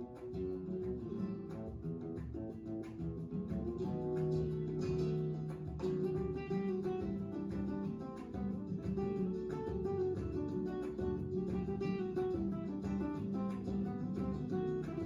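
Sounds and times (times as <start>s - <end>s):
acoustic guitar plucking and strumming: 0.0s - 15.0s.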